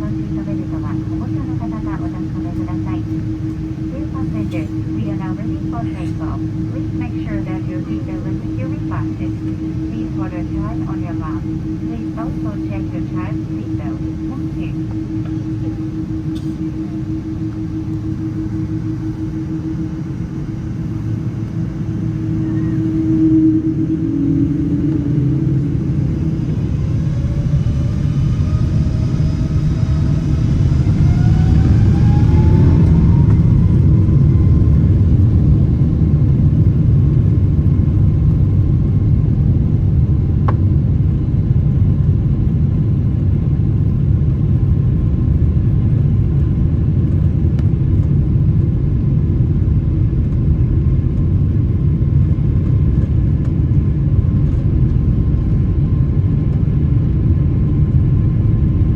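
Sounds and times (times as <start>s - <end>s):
jet engines whining and rumbling: 0.0s - 58.9s.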